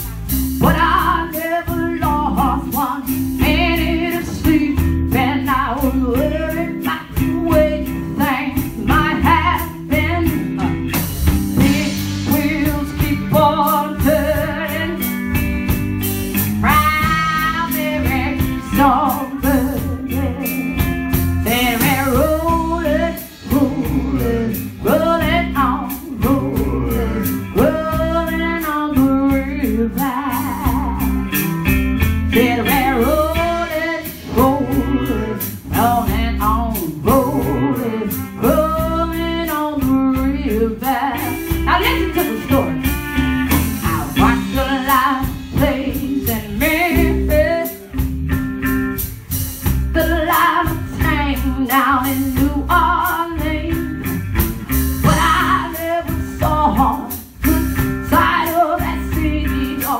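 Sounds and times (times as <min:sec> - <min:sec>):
drum kit: 0:00.0 - 0:59.9
electric guitar: 0:00.0 - 0:59.9
live band playing: 0:00.0 - 0:59.9.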